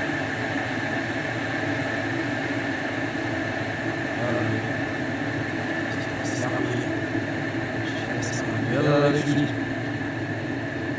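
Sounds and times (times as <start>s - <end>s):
low droning hum: 0.0s - 10.9s
thin high whine: 0.0s - 10.9s.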